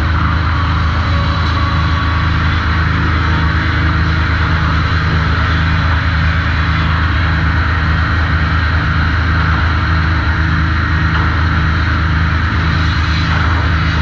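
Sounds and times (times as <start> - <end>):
sawmill machinery humming: 0.0 - 14.0.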